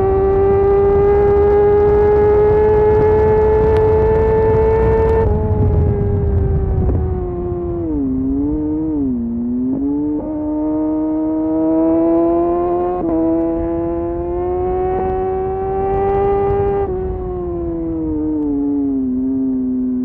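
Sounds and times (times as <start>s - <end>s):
low wind rumble: 0.0s - 20.0s
motorcycle engine under throttle: 0.0s - 20.0s.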